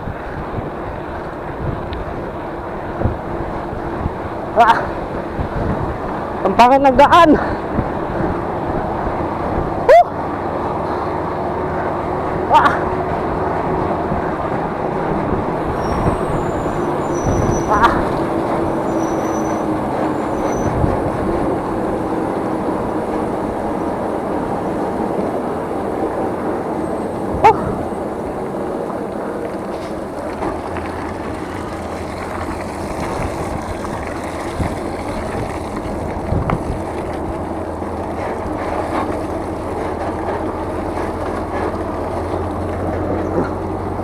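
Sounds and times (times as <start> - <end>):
wind and road noise: 0.0 - 44.0.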